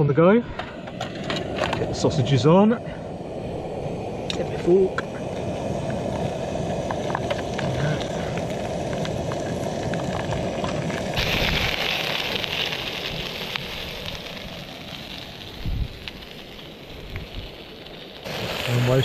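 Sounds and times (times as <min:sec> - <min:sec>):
sausages sizzling in a frying pan: 0:01.1 - 0:19.0.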